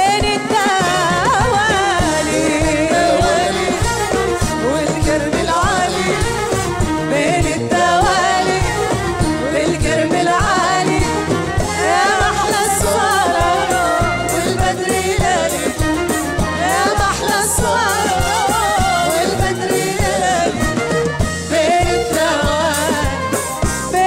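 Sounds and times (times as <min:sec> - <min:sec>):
person singing: 0:00.0 - 0:06.5, 0:07.1 - 0:24.0
band with drum-kit beat: 0:00.0 - 0:24.0.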